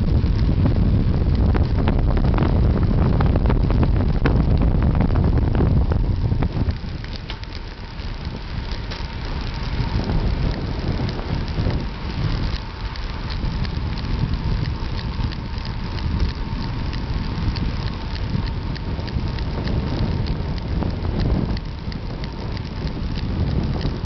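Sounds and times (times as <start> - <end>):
small clicks and rattles: 0.0 - 24.0
wind on microphone: 0.0 - 24.0.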